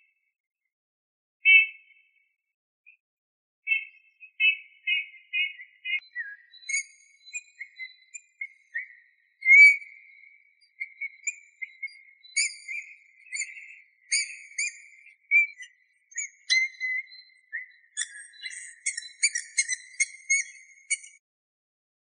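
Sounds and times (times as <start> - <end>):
bullfinch singing whistled notes: 1.5 - 1.8, 3.7 - 21.2.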